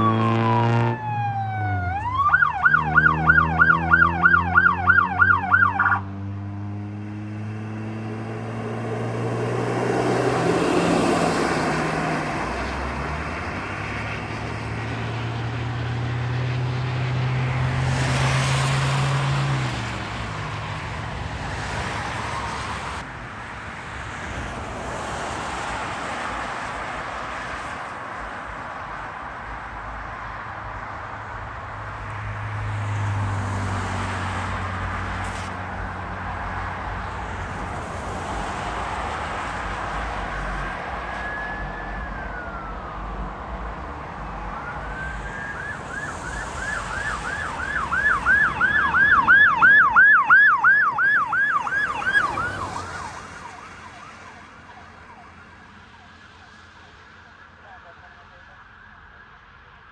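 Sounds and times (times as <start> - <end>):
emergency vehicle siren: 0.0 - 23.0, 32.9 - 59.9
vehicle engine and road noise: 0.0 - 59.9.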